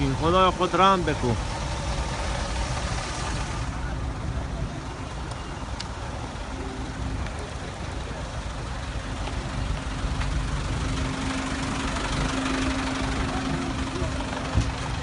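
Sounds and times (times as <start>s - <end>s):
idling vehicle engines: 0.0s - 15.0s
road noise: 0.0s - 15.0s.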